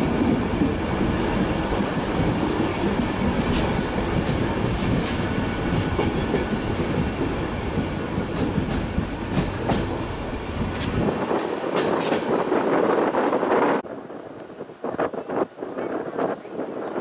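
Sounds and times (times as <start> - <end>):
wheels clicking over rail joints: 0.0 - 13.7
train rumbling and rattling: 0.0 - 17.0.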